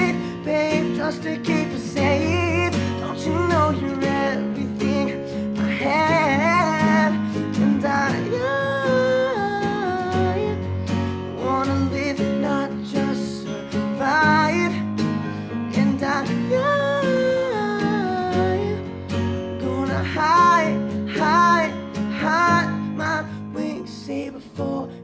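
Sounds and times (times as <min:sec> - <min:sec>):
acoustic guitar strumming: 0:00.0 - 0:25.0
digital piano playing chords: 0:00.0 - 0:25.0.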